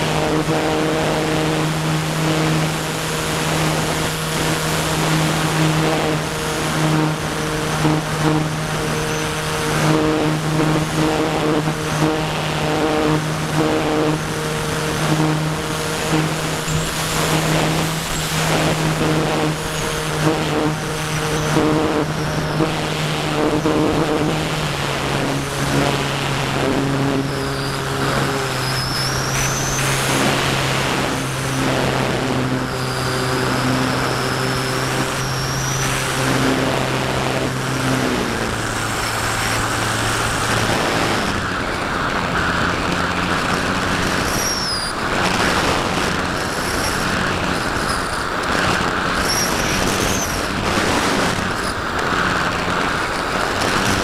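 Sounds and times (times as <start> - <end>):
electric motor and propeller drone: 0.0 - 54.0
wind rushing over microphone: 0.0 - 54.0.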